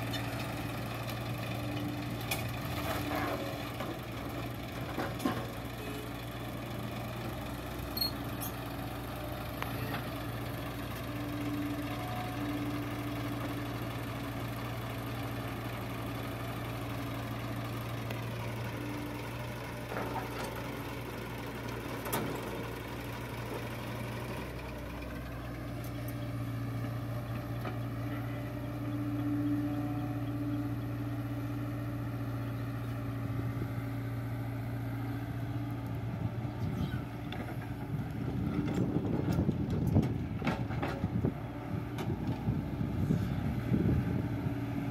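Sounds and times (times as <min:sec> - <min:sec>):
diesel engines idling: 0:00.0 - 0:44.9.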